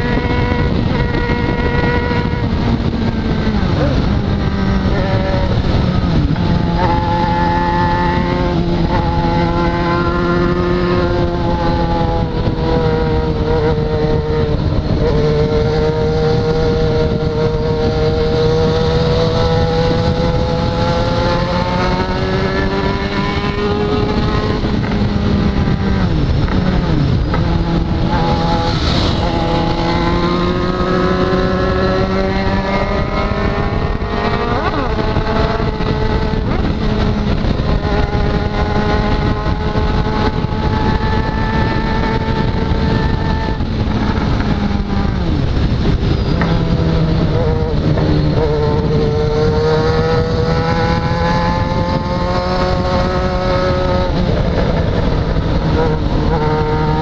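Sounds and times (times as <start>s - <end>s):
motorcycle engine cruising: 0.0s - 57.0s
road noise: 0.0s - 57.0s
wind noise: 0.0s - 57.0s.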